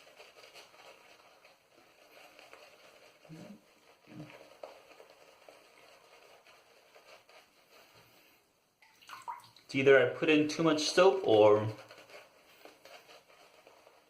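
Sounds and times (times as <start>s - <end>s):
shaving brush wet crackling: 0.0s - 8.2s, 8.8s - 14.0s.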